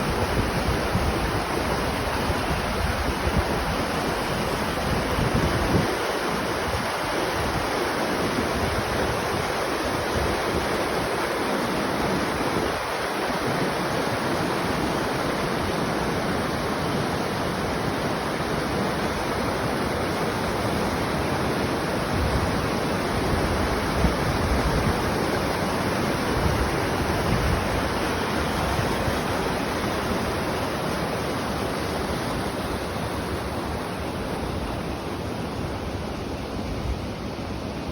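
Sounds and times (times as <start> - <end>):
running water rushing: 0.0 - 37.9.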